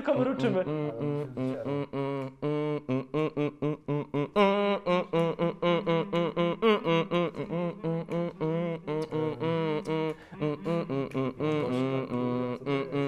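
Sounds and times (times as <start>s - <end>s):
man humming a melody: 0.2s - 13.0s.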